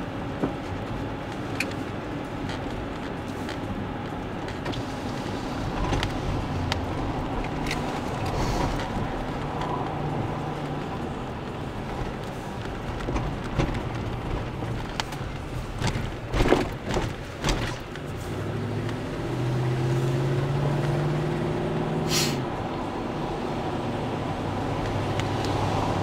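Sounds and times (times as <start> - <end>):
car engine hum: 0.0 - 26.0
tyre noise on road: 0.0 - 26.0.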